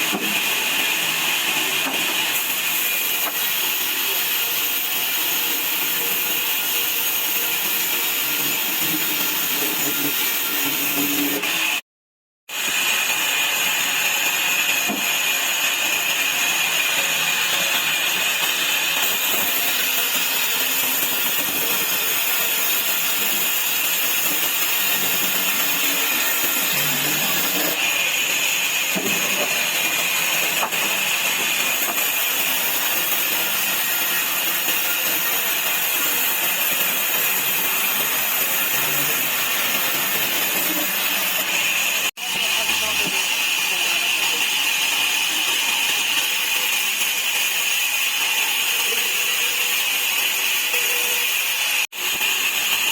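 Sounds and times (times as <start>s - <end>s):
saw cutting wood: 0.0s - 11.8s, 12.5s - 52.9s.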